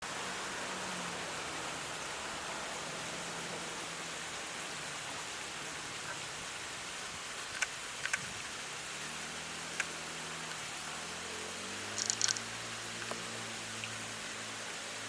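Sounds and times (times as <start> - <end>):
outdoor hiss: 0.0 - 15.0.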